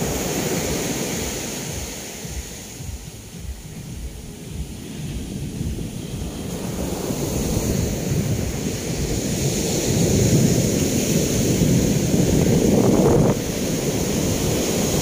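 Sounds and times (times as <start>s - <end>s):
ocean surf washing ashore: 0.0s - 15.0s
wind rumbling on microphone: 0.0s - 15.0s.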